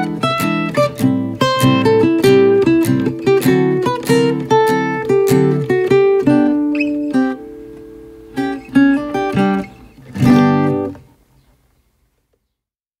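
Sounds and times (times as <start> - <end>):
acoustic guitar music: 0.0 - 11.5.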